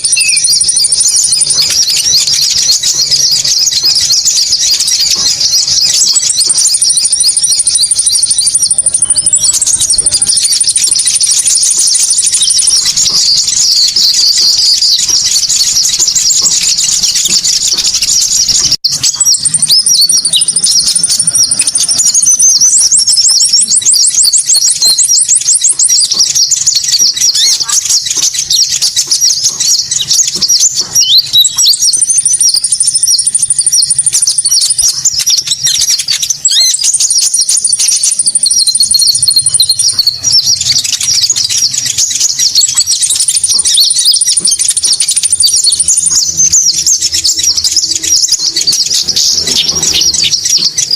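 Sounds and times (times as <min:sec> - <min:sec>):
high-pitched bird chirping: 0:00.0 - 0:50.9.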